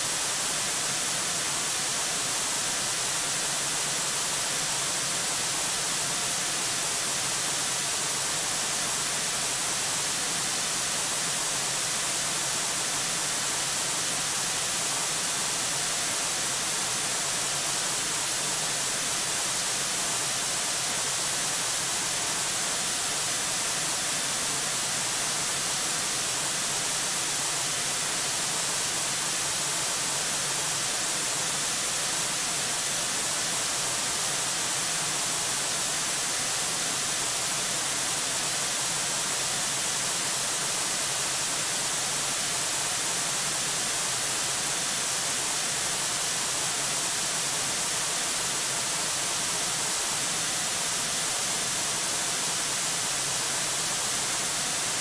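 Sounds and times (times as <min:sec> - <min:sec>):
microphone static hiss: 0:00.0 - 0:55.0.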